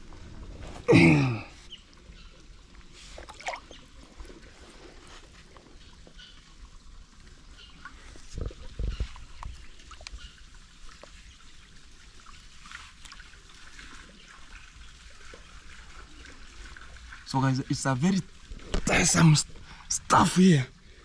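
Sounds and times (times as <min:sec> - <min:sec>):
water pouring from pipe: 0:02.9 - 0:21.0.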